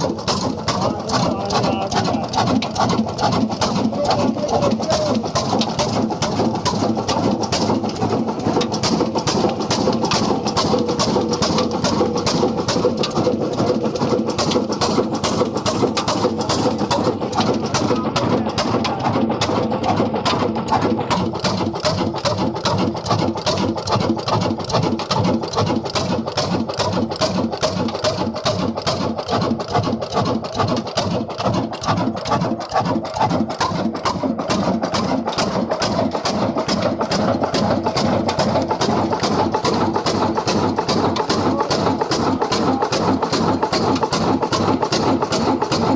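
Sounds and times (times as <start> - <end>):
diesel engine exhaust beating: 0.0 - 45.9.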